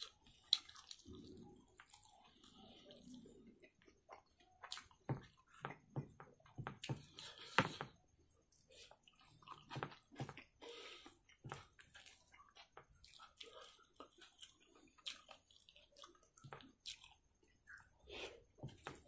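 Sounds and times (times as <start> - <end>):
mouth chewing wetly: 0.0 - 5.8, 8.5 - 19.0
fingers squishing rice: 0.0 - 19.0.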